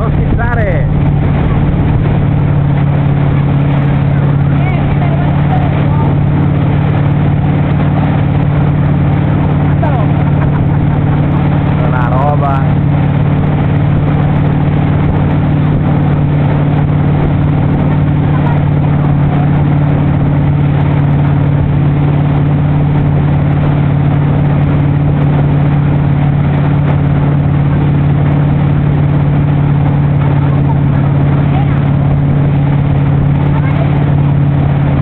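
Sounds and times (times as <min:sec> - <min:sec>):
motorboat engine drone: 0:00.0 - 0:35.0
water rushing from wake: 0:00.0 - 0:35.0.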